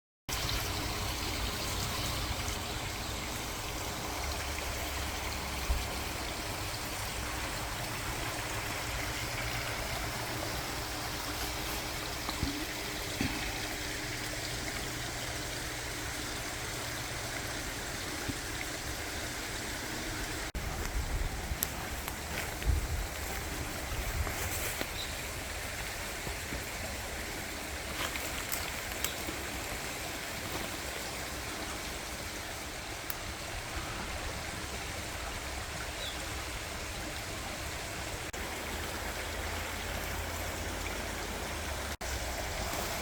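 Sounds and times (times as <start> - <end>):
running water rushing: 0.3 - 43.0.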